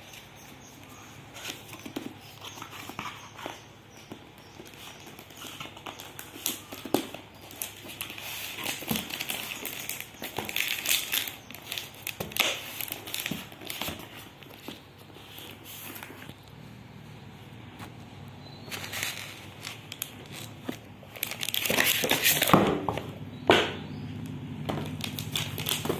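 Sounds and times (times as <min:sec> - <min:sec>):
cardboard and plastic rustling: 0:00.0 - 0:16.6, 0:18.6 - 0:23.2, 0:24.7 - 0:25.9.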